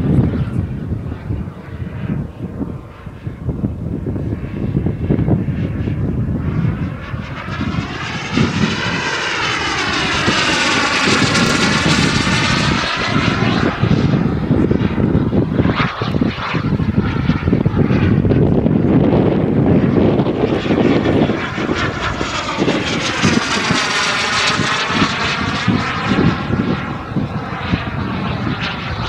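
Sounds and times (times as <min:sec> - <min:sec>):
model jet turbine passing: 0:00.0 - 0:29.0.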